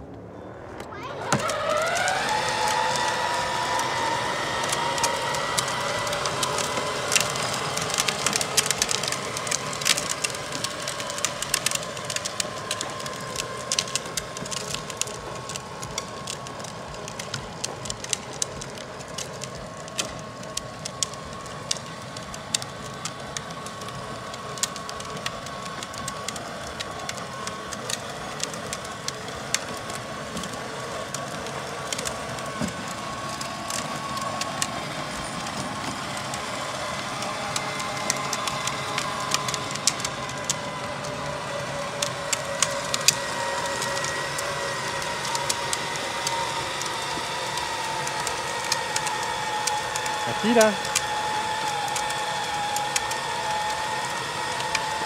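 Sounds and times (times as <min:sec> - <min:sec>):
electric motor whining: 0:00.0 - 0:55.0
plastic wheels crackling on asphalt: 0:00.0 - 0:55.0.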